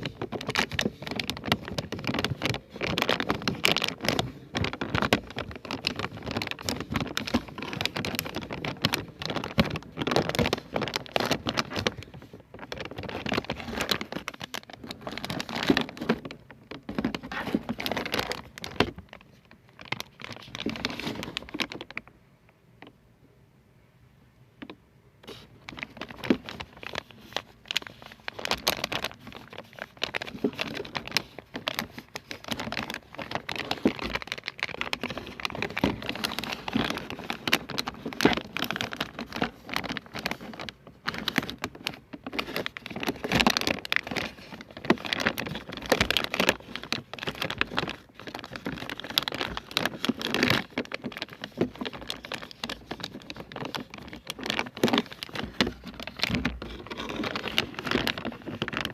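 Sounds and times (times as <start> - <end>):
small taps clicks and crinkles: 0.0 - 23.0, 24.6 - 58.9.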